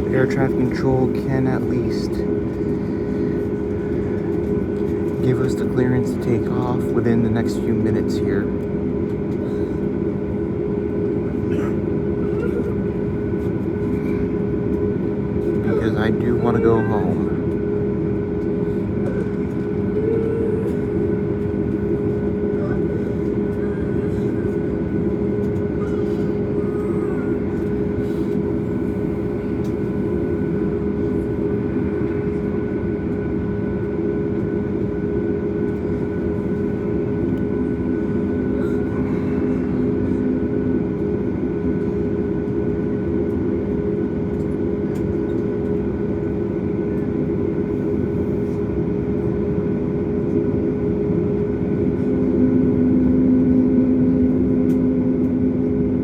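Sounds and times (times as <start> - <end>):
air-conditioning hum: 0.0 - 56.0
aircraft engines idling: 0.0 - 56.0.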